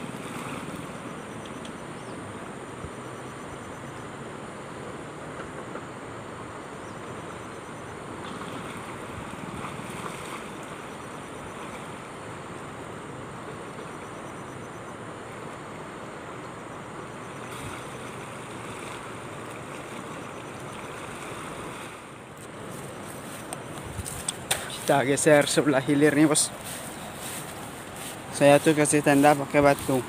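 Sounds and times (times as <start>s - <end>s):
river rushing: 4.0s - 14.1s, 15.0s - 30.0s.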